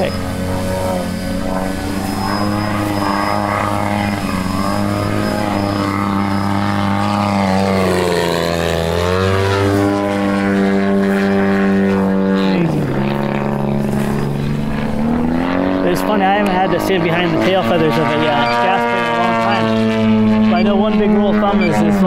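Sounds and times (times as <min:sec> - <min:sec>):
model airplane engine and propeller: 0:00.0 - 0:22.0.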